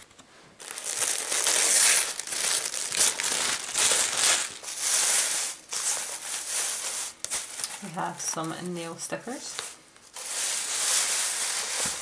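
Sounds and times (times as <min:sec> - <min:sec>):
paper packing crinkling: 0:00.6 - 0:08.7, 0:09.5 - 0:12.0.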